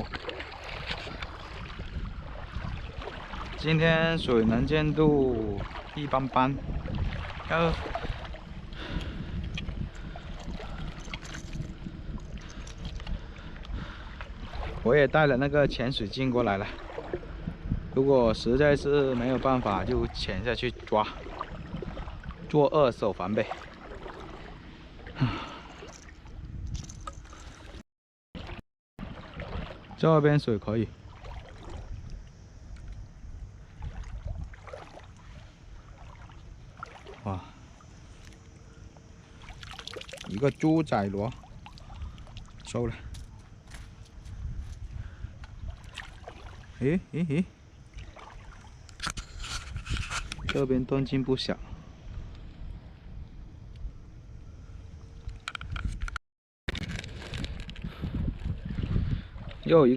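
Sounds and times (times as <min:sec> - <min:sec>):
seawater sloshing around wading: 0:00.0 - 0:27.8, 0:28.4 - 0:55.4, 0:56.7 - 0:59.9.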